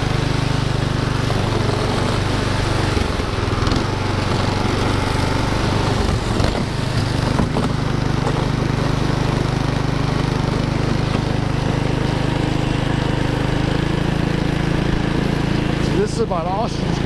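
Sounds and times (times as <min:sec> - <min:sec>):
small sled engine running: 0:00.0 - 0:17.0.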